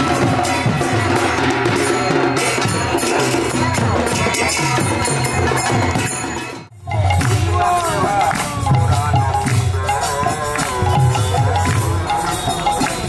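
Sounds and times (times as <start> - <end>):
hand cymbals clashing: 0.0 - 13.0.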